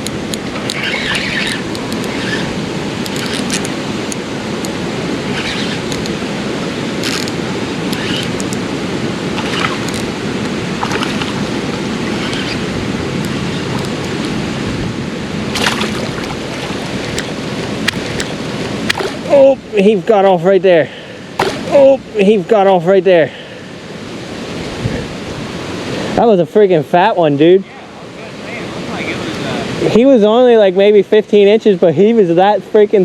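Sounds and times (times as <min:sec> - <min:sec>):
creek water rushing: 0:00.0 - 0:33.0.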